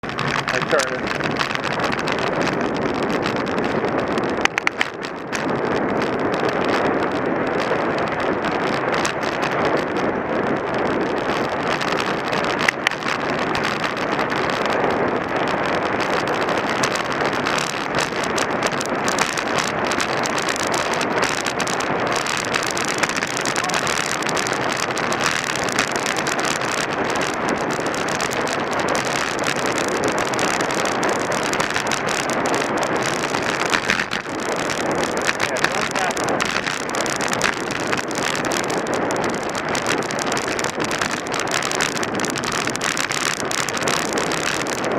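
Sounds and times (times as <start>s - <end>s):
wind noise on microphone: 0.0s - 44.9s.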